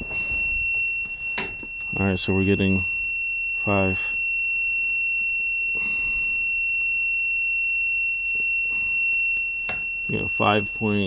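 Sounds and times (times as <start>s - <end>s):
continuous high-pitched beep: 0.0s - 11.0s.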